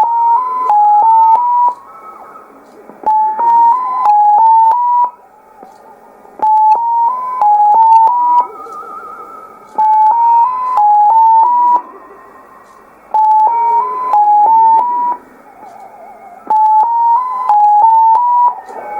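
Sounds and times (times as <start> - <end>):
receiver hiss: 0.0 - 18.9
short steady radio tones: 0.0 - 18.9.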